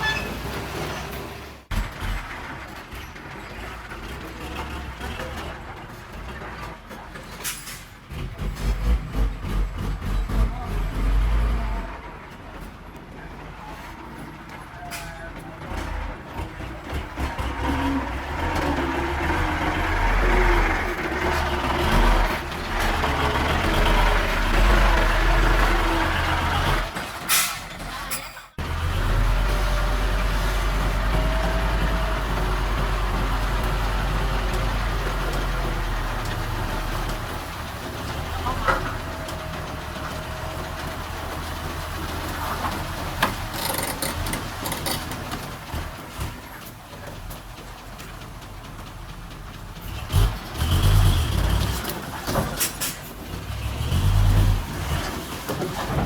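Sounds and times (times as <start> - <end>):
heavy machinery diesel engine rumbling: 0.0 - 56.0.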